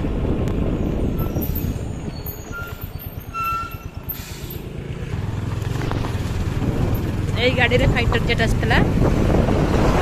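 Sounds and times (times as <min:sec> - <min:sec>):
road noise: 0:00.0 - 0:10.0
truck rumble: 0:00.0 - 0:10.0.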